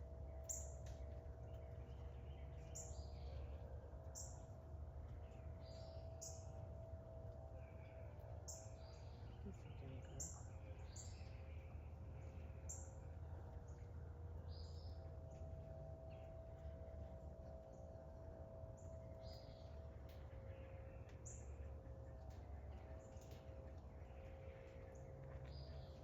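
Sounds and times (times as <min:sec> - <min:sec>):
low background hum: 0:00.0 - 0:26.0
songbirds chirping: 0:00.0 - 0:26.0.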